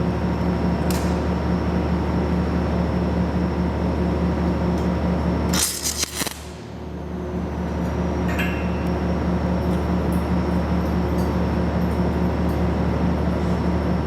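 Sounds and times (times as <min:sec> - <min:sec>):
pulsing low machine hum: 0:00.0 - 0:14.0.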